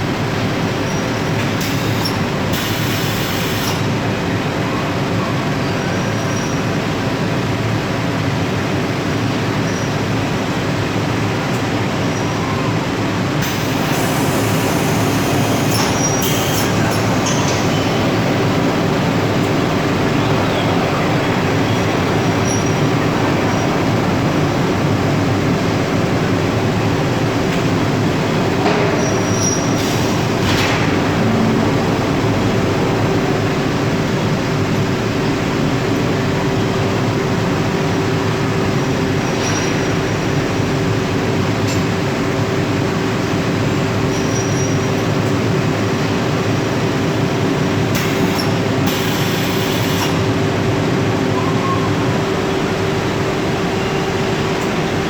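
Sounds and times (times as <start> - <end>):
loud industrial machinery noise: 0.0 - 55.0.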